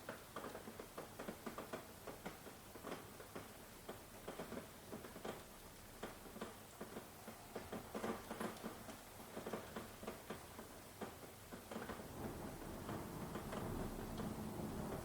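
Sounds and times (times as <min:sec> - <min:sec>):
rain drops tapping: 0:00.0 - 0:15.0.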